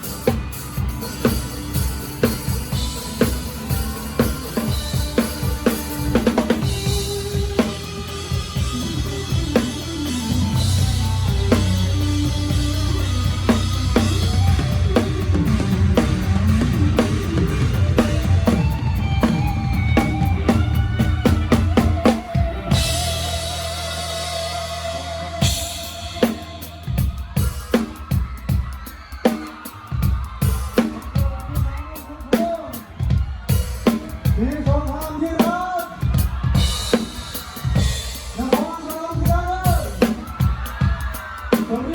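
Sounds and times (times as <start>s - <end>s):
band playing: 0.0s - 41.9s
drum kit beat: 0.0s - 41.9s.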